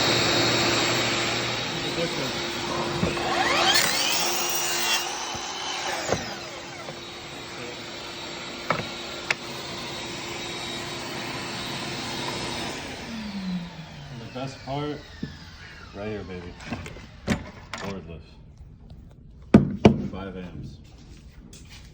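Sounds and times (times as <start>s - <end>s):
saw motor whining: 0.0s - 18.0s.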